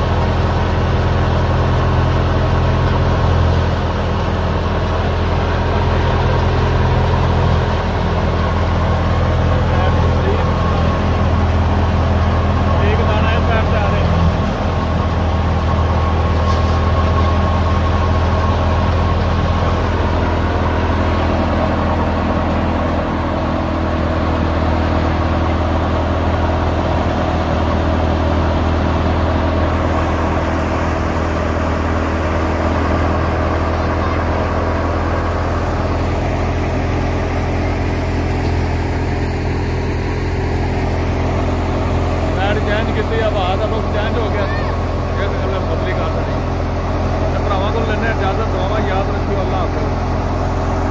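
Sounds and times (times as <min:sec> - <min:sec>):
thresher running under load: 0:00.0 - 0:50.9
tractor diesel engine: 0:00.0 - 0:50.9.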